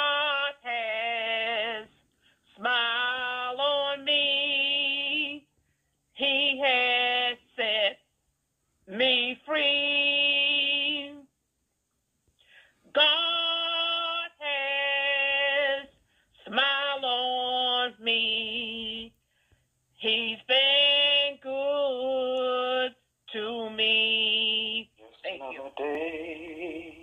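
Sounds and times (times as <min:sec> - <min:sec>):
person singing unaccompanied: 0:00.0 - 0:02.0, 0:02.6 - 0:05.5, 0:06.2 - 0:08.0, 0:08.9 - 0:11.3, 0:12.8 - 0:19.2, 0:20.0 - 0:27.0.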